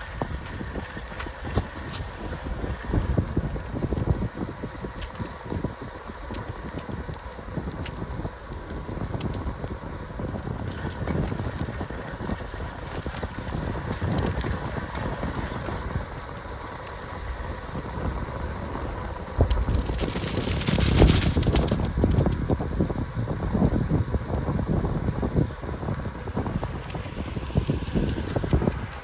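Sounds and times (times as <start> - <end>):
bicycle rattling on pavement: 0.0 - 29.0
wind buffeting microphone: 0.0 - 29.0.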